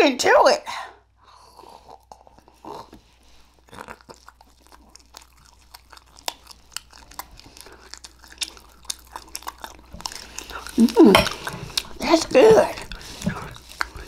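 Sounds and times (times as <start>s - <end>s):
person chewing cake: 1.2s - 14.0s.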